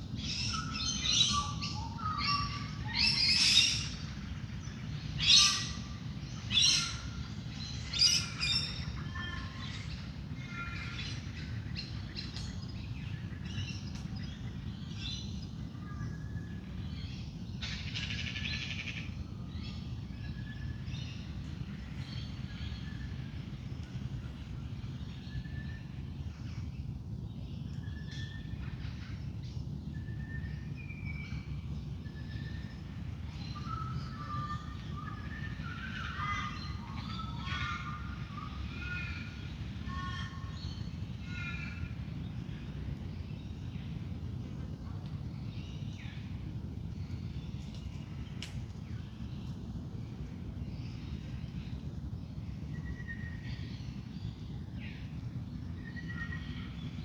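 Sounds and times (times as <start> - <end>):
birds calling and chirping: 0.0 - 57.0.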